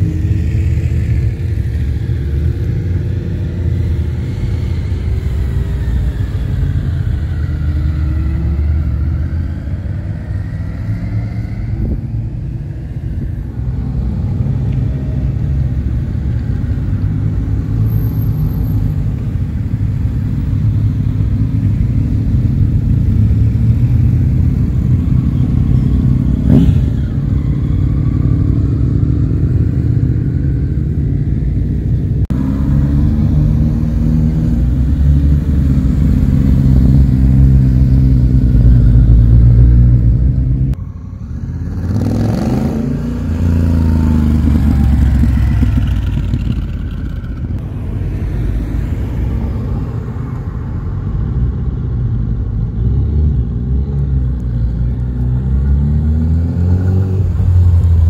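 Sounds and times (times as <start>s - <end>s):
motorcycles riding past: 0.0s - 51.0s
road traffic rumble: 0.0s - 58.0s.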